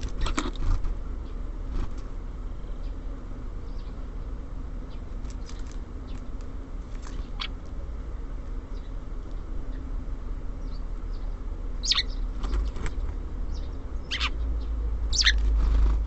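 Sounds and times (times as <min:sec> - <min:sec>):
small songbirds chirping: 0:00.0 - 0:01.5, 0:02.4 - 0:16.0.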